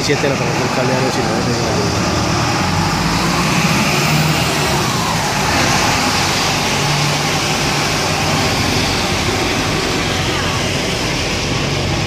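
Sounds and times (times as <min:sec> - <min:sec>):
bus engine running: 0:00.0 - 0:12.0
wet road traffic hiss: 0:00.0 - 0:12.0.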